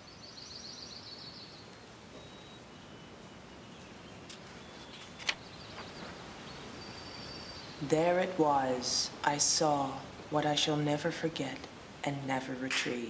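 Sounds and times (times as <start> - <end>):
birds singing: 0.0 - 10.9
faint outdoor background: 0.0 - 13.0.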